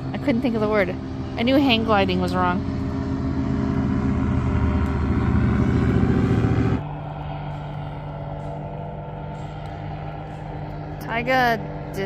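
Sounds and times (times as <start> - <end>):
low hum: 0.0 - 12.0
propeller motor running: 0.0 - 12.0.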